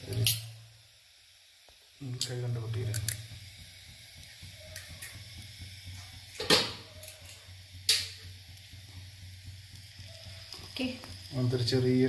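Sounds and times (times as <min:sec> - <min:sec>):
gas burner hiss: 0:00.0 - 0:12.0.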